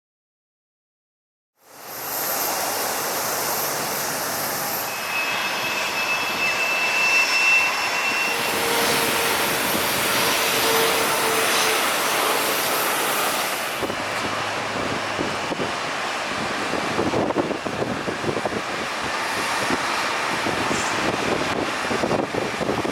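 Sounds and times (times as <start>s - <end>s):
high engine whine: 1.6s - 22.9s
jet engines running: 1.6s - 22.9s.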